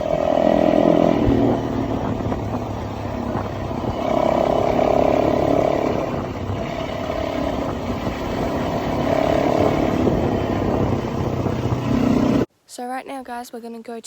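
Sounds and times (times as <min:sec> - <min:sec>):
dense noisy rumble: 0:00.0 - 0:12.5
motorbike engine running: 0:00.0 - 0:12.5.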